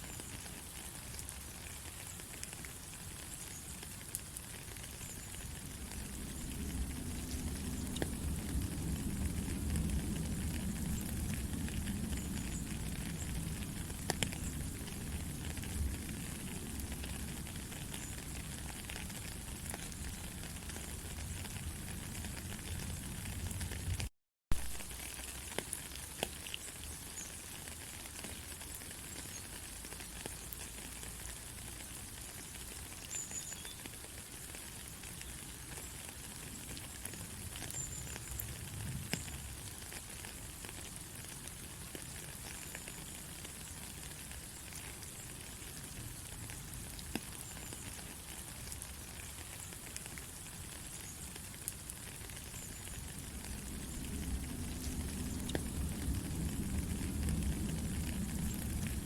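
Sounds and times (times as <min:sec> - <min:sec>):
raindrops ticking: 0:00.0 - 0:59.0
steady rain hiss: 0:00.0 - 0:59.0.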